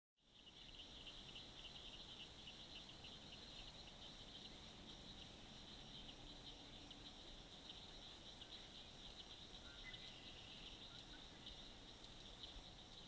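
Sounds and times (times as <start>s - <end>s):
treefrogs calling in chorus: 0.3s - 13.0s.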